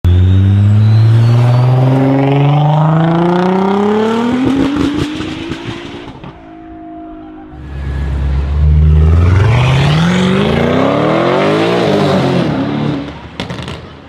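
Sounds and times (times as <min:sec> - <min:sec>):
car engine accelerating hard: 0:00.1 - 0:06.4, 0:07.6 - 0:13.7.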